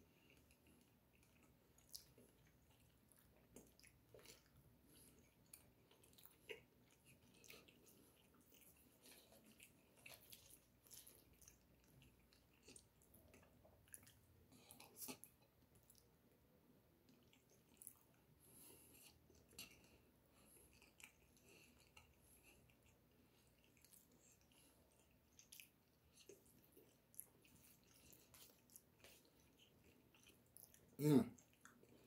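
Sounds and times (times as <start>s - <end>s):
wet chewing: 0.0s - 32.0s.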